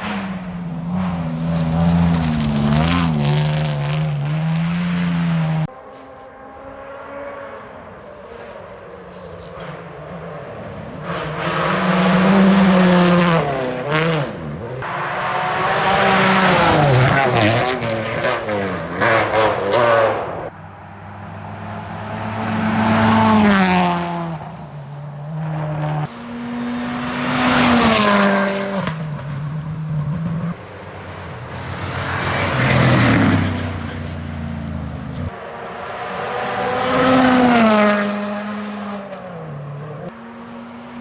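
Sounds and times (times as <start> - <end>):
rally cars passing at speed: 0.0 - 41.0.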